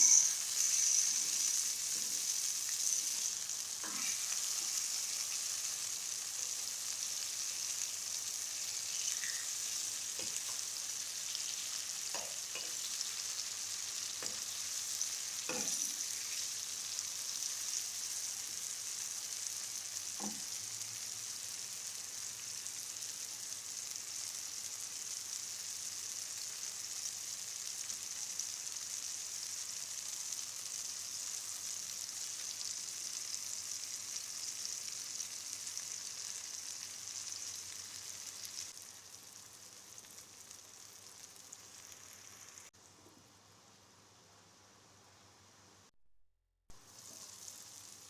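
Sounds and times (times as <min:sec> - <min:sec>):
omelette sizzling in a pan: 0:00.0 - 0:42.8, 0:46.7 - 0:48.0.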